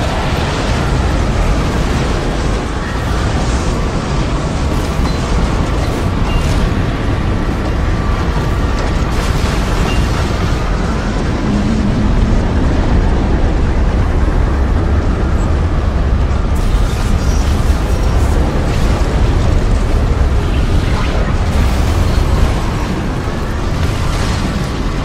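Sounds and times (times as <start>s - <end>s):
deep rushing wind: 0.0s - 25.0s.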